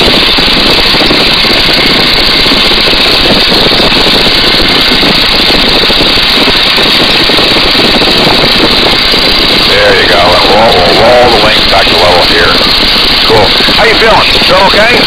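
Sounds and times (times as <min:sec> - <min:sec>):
propeller plane engine running: 0:00.0 - 0:15.0
wind rushing over microphone: 0:00.0 - 0:15.0.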